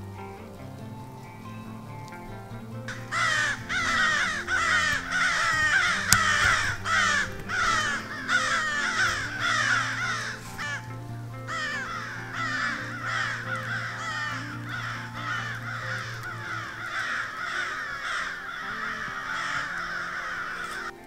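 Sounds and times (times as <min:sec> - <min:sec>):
crows cawing: 0:02.9 - 0:21.0.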